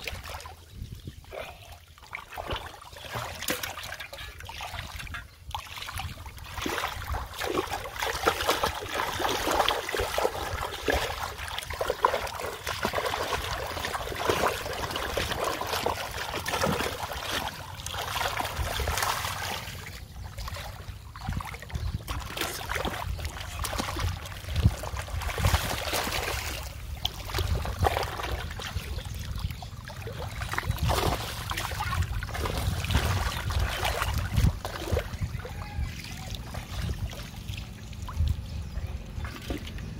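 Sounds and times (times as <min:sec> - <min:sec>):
muddy water splashing: 0:00.0 - 0:39.9.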